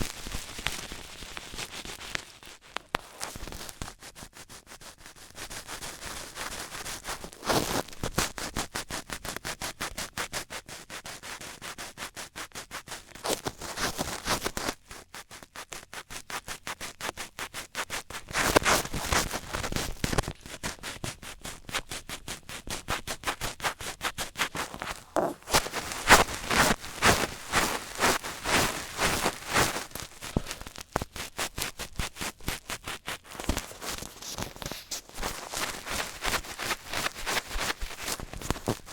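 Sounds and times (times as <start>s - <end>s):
tapping and scratching on microphone: 0.0s - 38.9s.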